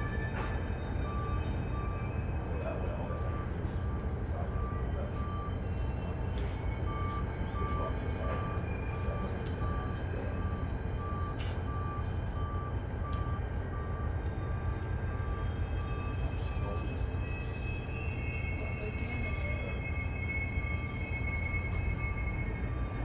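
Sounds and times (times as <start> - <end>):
diesel locomotives idling: 0.0 - 23.0.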